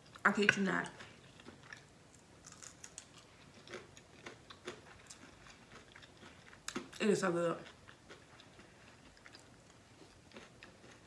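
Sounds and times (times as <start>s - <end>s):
person chewing food: 0.8s - 7.0s, 7.6s - 11.0s.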